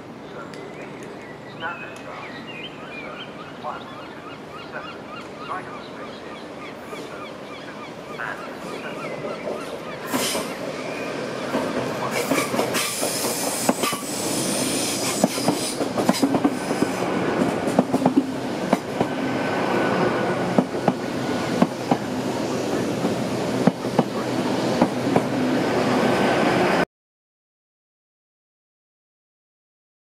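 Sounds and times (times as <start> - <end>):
train running and rolling: 0.0 - 26.8.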